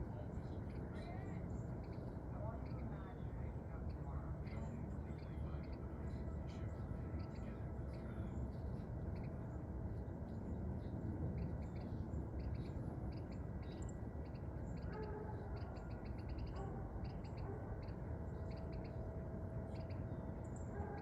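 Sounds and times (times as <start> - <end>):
low background rumble: 0.0 - 21.0
small birds chirping: 0.0 - 21.0.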